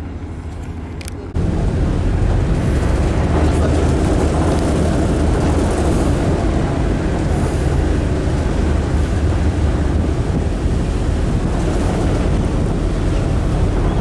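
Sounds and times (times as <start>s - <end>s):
ferry engine rumble: 0.0s - 14.0s
water along hull: 0.0s - 14.0s
wind noise on microphone: 0.5s - 14.0s.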